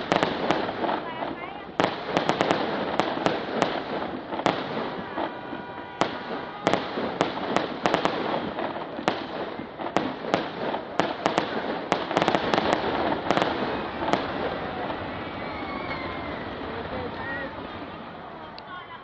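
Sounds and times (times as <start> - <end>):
crackle of sparks: 0.0 - 17.3
firework shells bursting: 0.0 - 18.0.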